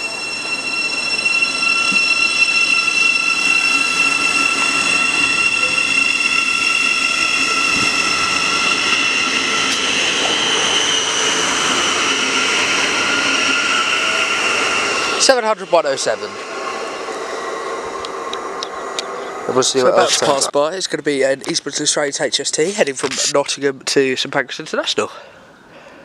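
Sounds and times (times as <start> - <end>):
train carriages rumbling: 0.0 - 25.7
electric train high whine: 0.0 - 26.0.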